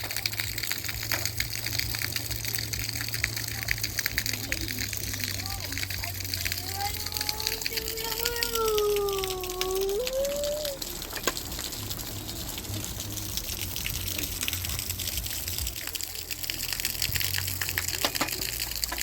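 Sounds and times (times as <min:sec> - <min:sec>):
water drips and splashes: 0:00.0 - 0:19.0
water gushing: 0:00.0 - 0:19.0.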